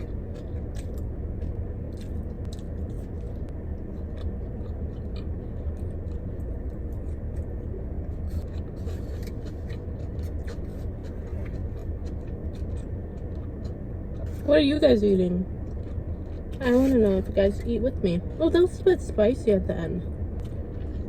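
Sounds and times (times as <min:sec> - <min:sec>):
chewing and crunching food: 0:00.0 - 0:21.0
low rumble inside a car: 0:00.0 - 0:21.0.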